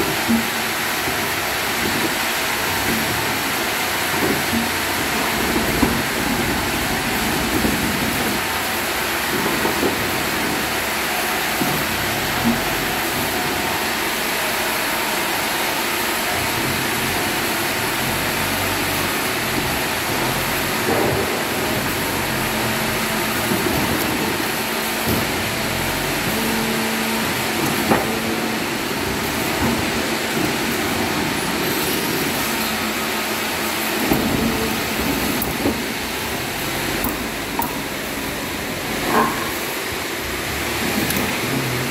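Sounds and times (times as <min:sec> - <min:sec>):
band saw machinery drone: 0:00.0 - 0:41.9.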